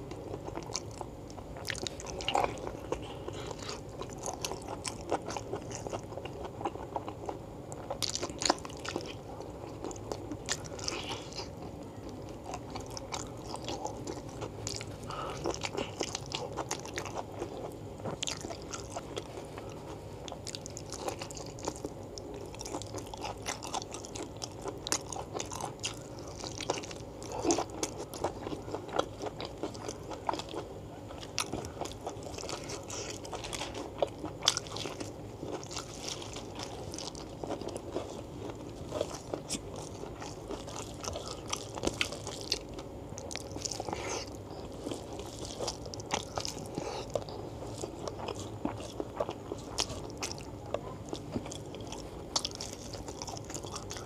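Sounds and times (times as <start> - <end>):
close chewing: 0.0 - 54.0.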